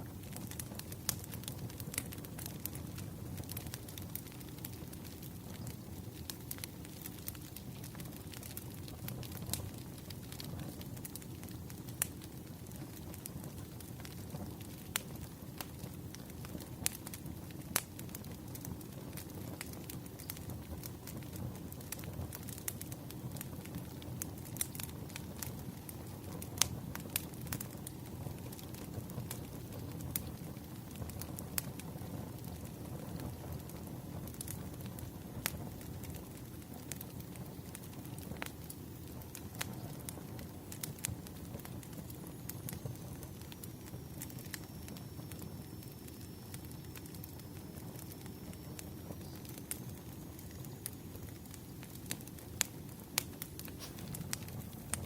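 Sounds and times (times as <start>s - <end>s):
firewood crackling and popping: 0.0s - 55.0s
low rumble of fire: 0.0s - 55.0s.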